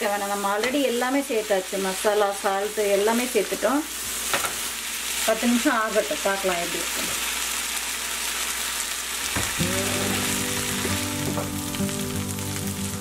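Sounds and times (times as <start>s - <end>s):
shrimp sizzling in oil: 0.0s - 13.0s.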